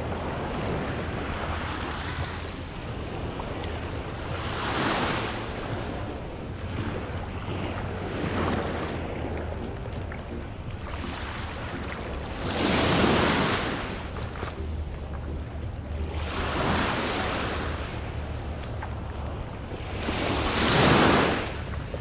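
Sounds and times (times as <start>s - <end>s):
small waves washing on sand: 0.0s - 22.0s.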